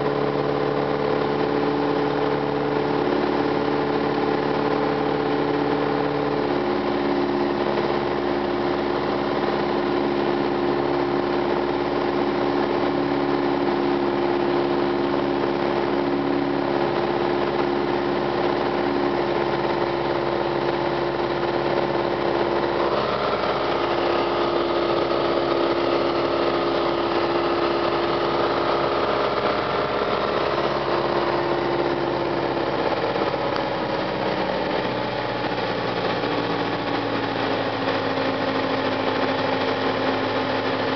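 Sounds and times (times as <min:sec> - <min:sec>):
aircraft engine drone in cockpit: 0:00.0 - 0:40.9
high whine: 0:00.0 - 0:40.9.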